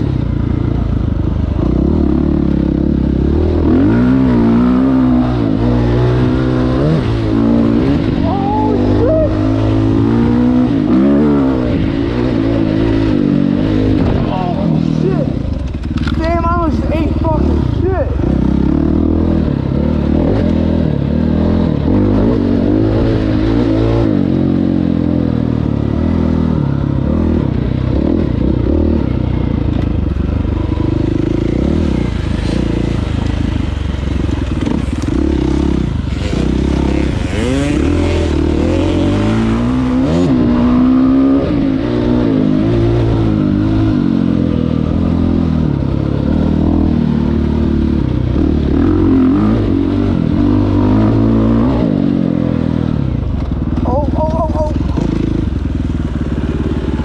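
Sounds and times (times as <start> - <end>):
dirt bike engine revving: 1.5 - 57.0.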